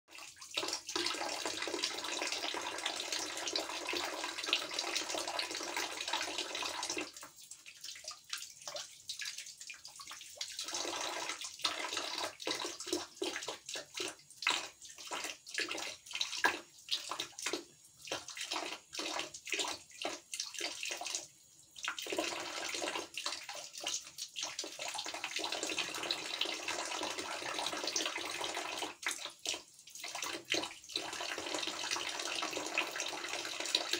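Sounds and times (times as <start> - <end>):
water stream splashing into bucket: 0.1 - 33.9.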